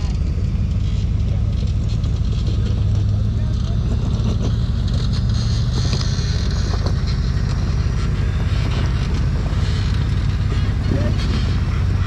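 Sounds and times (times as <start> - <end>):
vehicle engine running low revs: 0.0 - 12.0.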